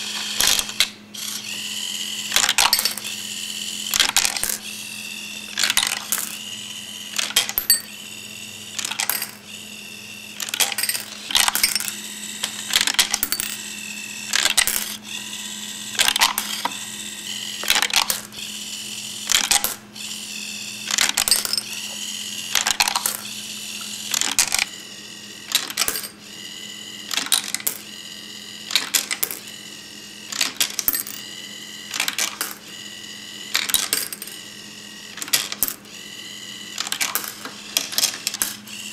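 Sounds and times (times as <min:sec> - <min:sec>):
servos whirring: 0:00.0 - 0:38.9.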